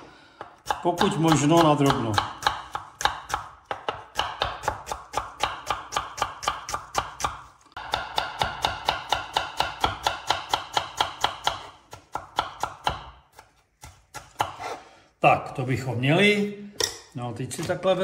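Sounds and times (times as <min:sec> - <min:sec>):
knife chopping on wooden board: 0:00.4 - 0:14.8.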